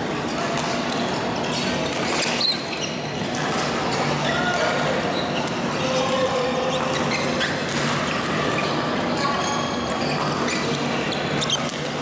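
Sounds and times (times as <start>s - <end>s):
din of badminton play: 0.0s - 12.0s
shoe squeaks on court floor: 0.2s - 4.2s, 5.0s - 11.9s.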